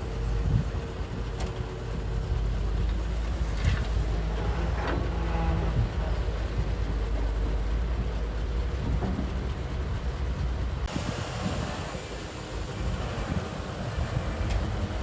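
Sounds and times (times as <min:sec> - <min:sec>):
heavy machinery diesel rumble: 0:00.0 - 0:15.0.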